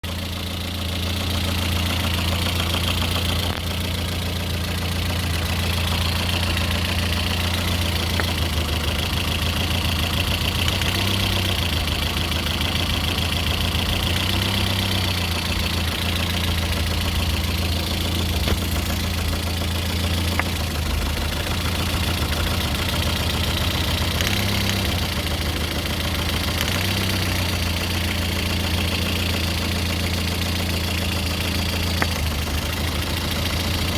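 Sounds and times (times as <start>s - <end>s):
car engine idling with regular knock: 0.0s - 33.9s.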